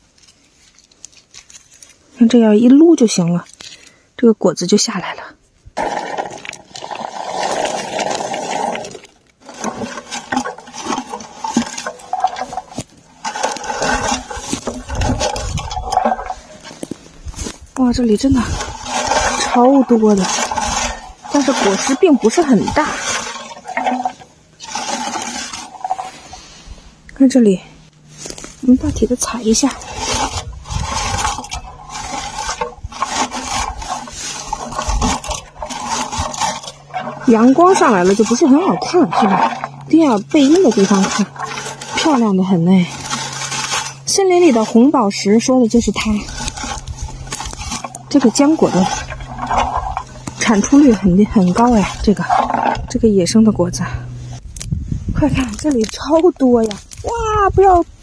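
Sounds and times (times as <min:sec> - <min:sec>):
leaves rustling: 0:00.0 - 0:04.0, 0:05.5 - 0:27.1, 0:27.7 - 0:58.0.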